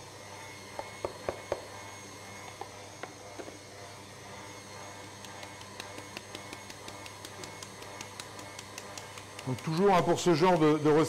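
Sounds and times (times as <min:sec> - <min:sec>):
stand mixer motor running: 0:00.0 - 0:11.0.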